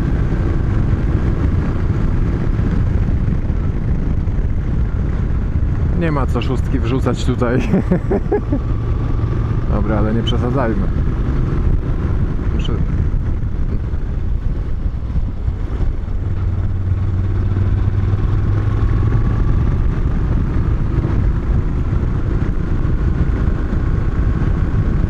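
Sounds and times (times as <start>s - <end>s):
motorcycle engine running: 0.0s - 25.0s
wind and road noise rumble: 0.0s - 25.0s.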